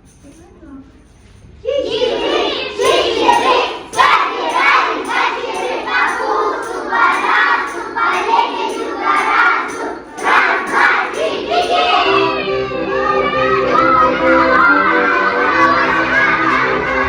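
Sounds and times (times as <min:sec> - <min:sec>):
children singing in unison: 0:01.7 - 0:17.0.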